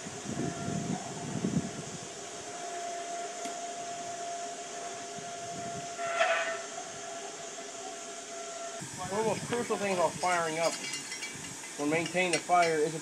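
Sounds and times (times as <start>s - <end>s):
electric blower whine: 0.0s - 10.8s
soft steam hiss: 0.0s - 13.0s.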